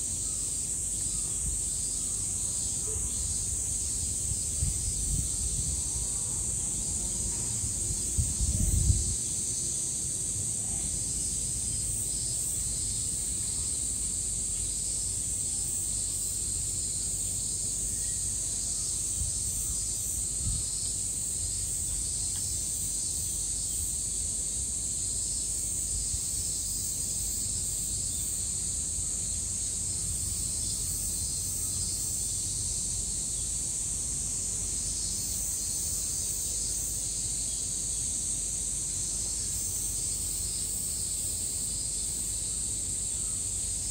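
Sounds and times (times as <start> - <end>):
cicada chorus buzzing: 0.0 - 43.9.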